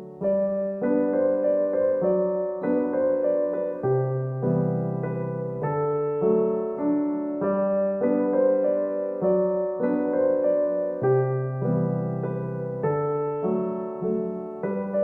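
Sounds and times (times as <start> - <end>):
gentle solo piano piece: 0.0 - 15.0.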